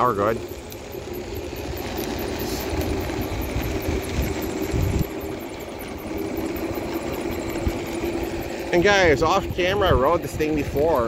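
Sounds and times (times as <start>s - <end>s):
electric scooter motor hum: 0.0s - 11.0s
low rumble of wheels on path: 0.0s - 11.0s.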